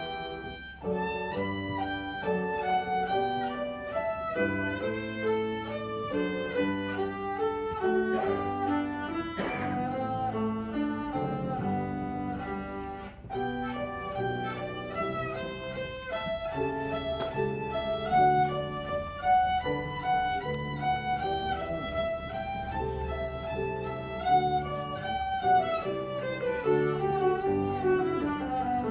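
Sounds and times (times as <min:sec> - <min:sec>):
solo violin melody: 0:00.0 - 0:28.9.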